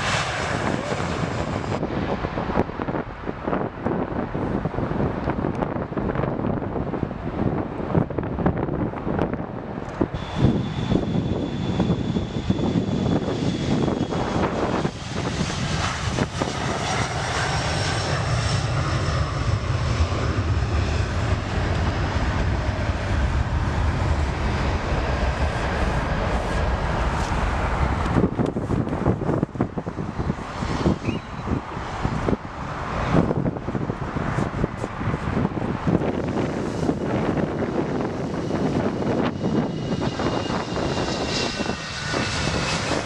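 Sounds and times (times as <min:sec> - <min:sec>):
jet airliner engines: 0:00.0 - 0:43.0
wind buffeting microphone: 0:00.0 - 0:43.0.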